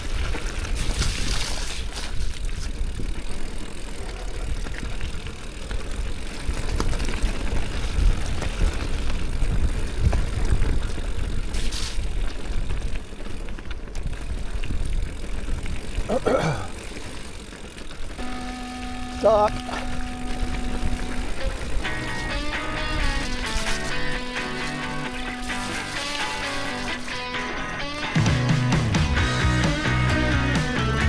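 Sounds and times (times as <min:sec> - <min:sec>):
wind rumbling on microphone: 0:00.0 - 0:18.2, 0:19.0 - 0:26.0
bike tyre noise: 0:00.0 - 0:31.0.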